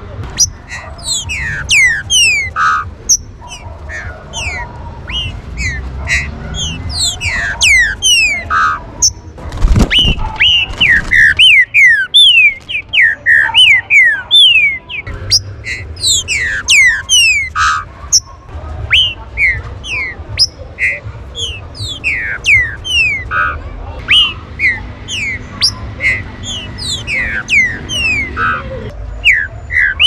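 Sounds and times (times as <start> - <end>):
bird whistling: 0.3 - 30.0.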